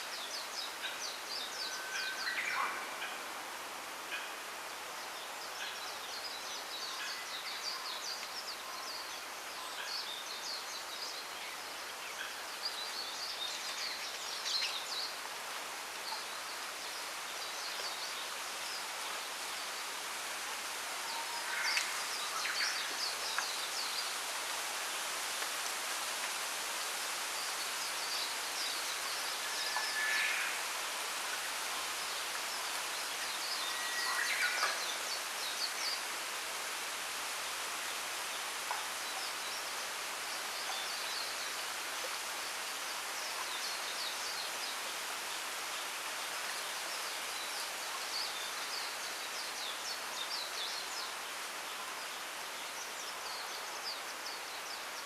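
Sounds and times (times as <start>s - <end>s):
wind rustling bamboo leaves: 0.0s - 55.0s.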